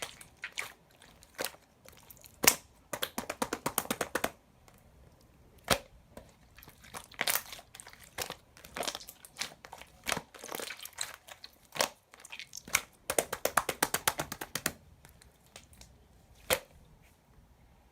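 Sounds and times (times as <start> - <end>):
slime squishing and popping: 0.0 - 4.8, 5.5 - 16.7.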